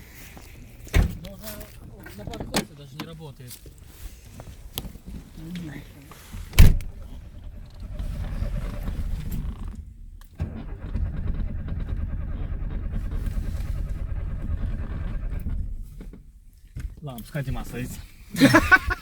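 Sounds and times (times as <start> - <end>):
car engine running: 0.1 - 16.7.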